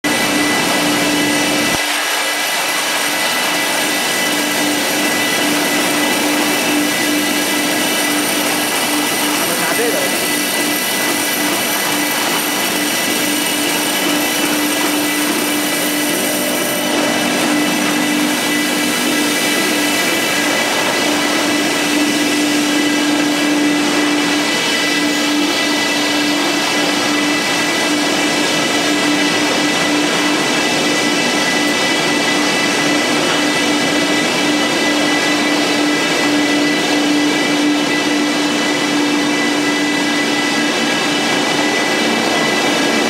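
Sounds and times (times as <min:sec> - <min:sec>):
production line machinery whirring: 0:00.0 - 0:43.0.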